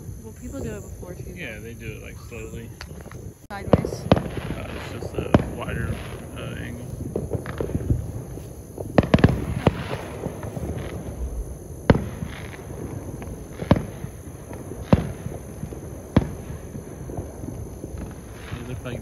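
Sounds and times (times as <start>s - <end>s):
fireworks bangs with echoing rumble: 0.0s - 19.0s
low rumble of fireworks: 0.0s - 19.0s.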